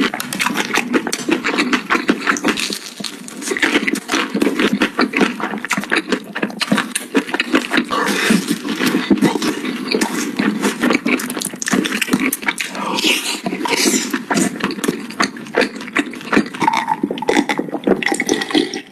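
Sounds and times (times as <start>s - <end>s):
lip smacks: 0.0s - 18.9s
wet chewing: 0.0s - 18.9s.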